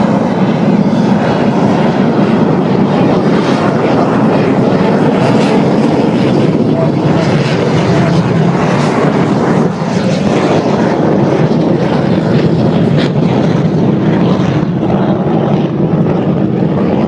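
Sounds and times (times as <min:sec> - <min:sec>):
aircraft engines: 0:00.0 - 0:17.0
jet engines roaring: 0:00.0 - 0:17.0.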